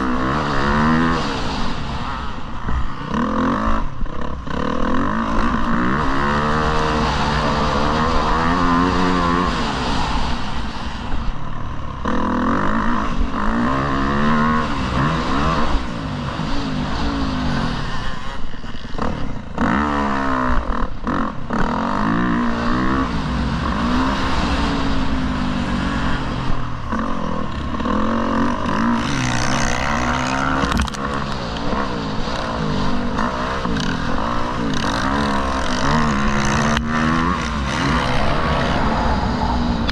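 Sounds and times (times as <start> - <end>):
dirt bike engine revving: 0.0 - 39.9
steady rush of noise: 0.0 - 39.9.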